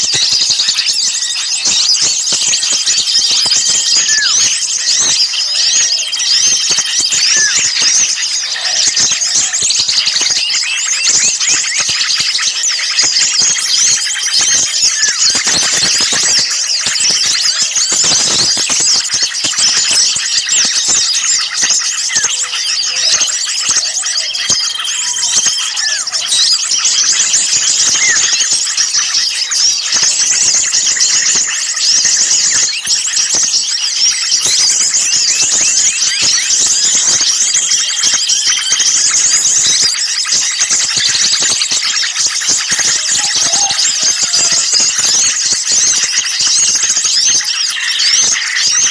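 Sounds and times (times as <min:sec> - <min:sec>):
songbirds chirping and twittering: 0:00.0 - 0:48.9.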